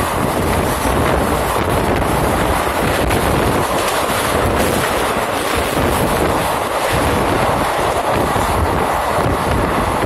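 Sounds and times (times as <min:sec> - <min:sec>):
moving train rumble: 0:00.0 - 0:10.0
wind buffeting the microphone: 0:00.0 - 0:10.0.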